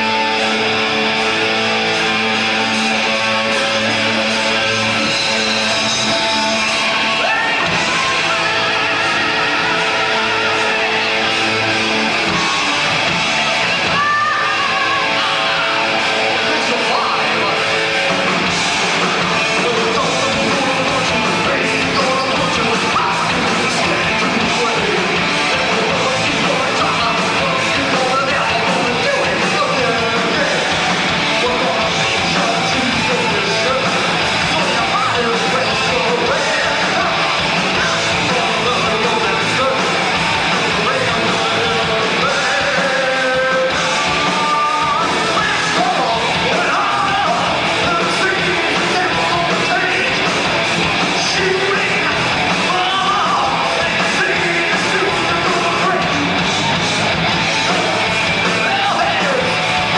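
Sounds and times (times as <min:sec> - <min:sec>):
live heavy metal band: 0:00.0 - 0:59.9.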